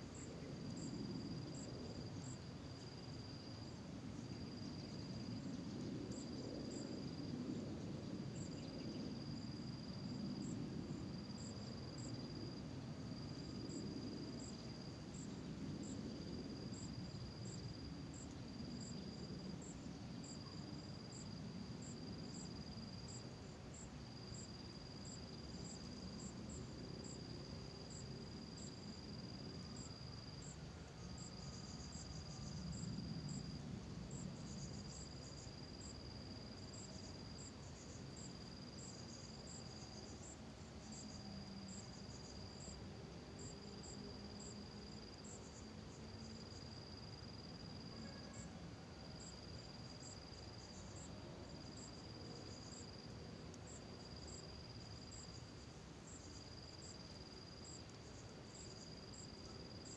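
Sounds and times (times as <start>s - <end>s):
crickets trilling: 0.0s - 59.9s
high insect chirp: 0.0s - 59.9s.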